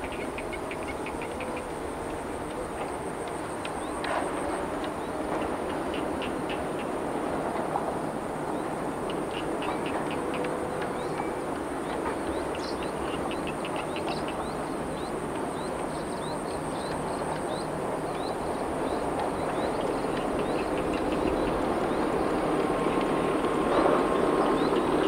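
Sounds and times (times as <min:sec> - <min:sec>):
low train rumble: 0:00.0 - 0:25.0.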